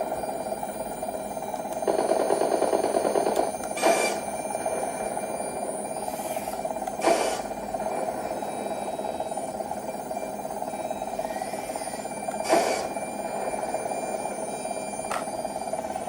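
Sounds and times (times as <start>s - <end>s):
electric toy tank motors whirring: 0.0s - 16.0s.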